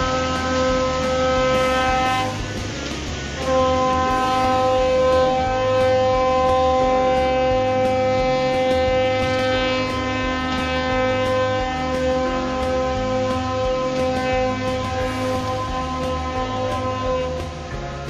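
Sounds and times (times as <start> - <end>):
rushing water along hull: 0.0 - 18.0
ship's horn blast: 0.0 - 18.0.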